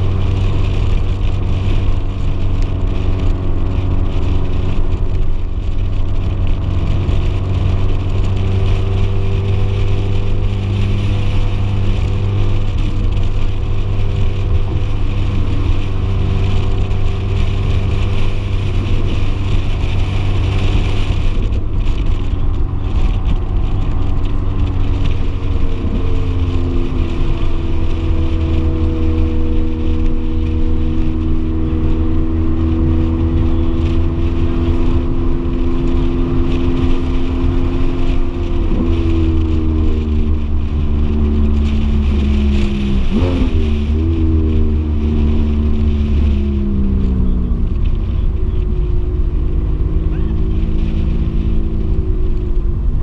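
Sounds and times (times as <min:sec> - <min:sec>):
car engine cruising: 0:00.0 - 0:53.0
wind and road noise: 0:00.0 - 0:53.0.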